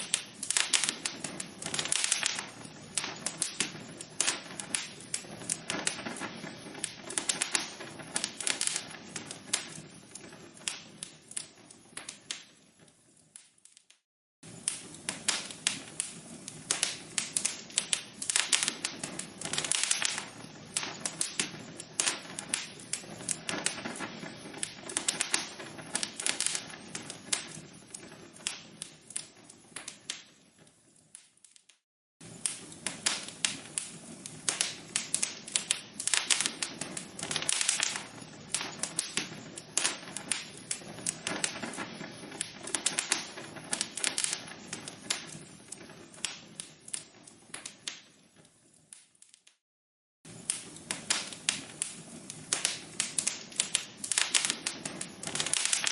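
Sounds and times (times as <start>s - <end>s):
fire hissing: 0.0s - 13.8s, 14.4s - 31.4s, 32.2s - 49.2s, 50.3s - 55.9s
logs crackling and popping: 0.0s - 49.6s, 50.3s - 55.9s.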